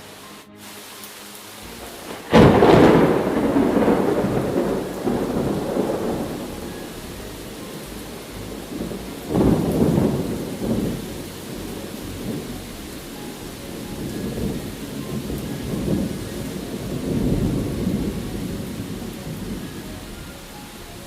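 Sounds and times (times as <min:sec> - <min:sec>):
steady rain: 0:00.0 - 0:21.0
rolling thunder rumbles: 0:01.6 - 0:21.0.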